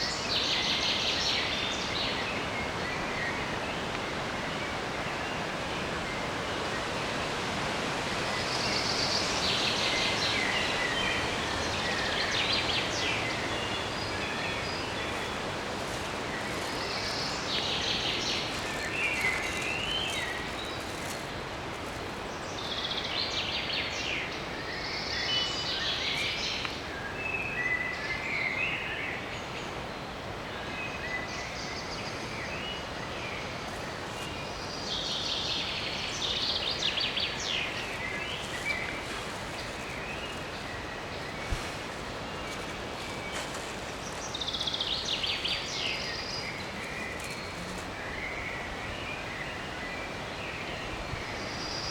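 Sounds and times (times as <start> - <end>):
songbirds singing: 0.0 - 51.9
steady rustling hiss: 0.0 - 51.9.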